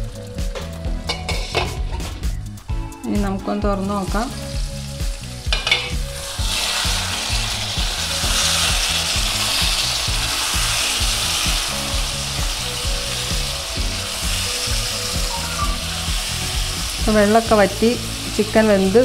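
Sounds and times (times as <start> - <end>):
gravy sizzling in a wok: 0.0 - 2.9, 3.5 - 19.0.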